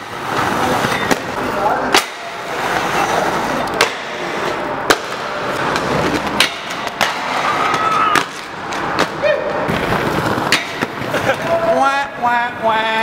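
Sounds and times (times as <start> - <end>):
skates clacking on rail: 0.0 - 11.6
inline skates rolling on concrete: 0.0 - 11.8
skates grinding on metal rail: 0.0 - 11.8.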